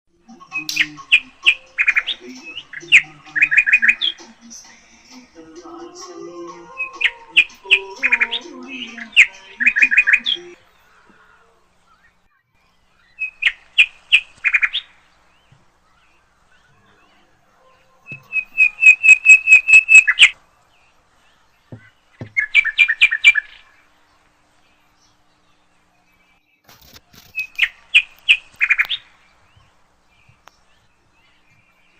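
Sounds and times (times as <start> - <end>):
songbird chirping trill: 0.1 - 31.9.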